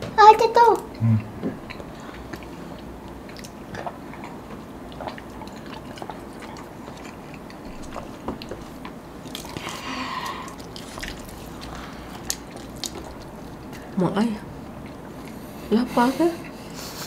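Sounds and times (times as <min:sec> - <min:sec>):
chewing fried chicken: 0:01.2 - 0:15.7.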